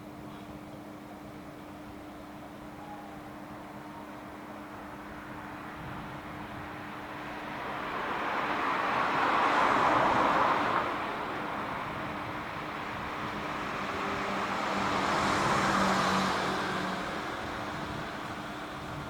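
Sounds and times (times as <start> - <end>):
road traffic passing: 3.3 - 19.0.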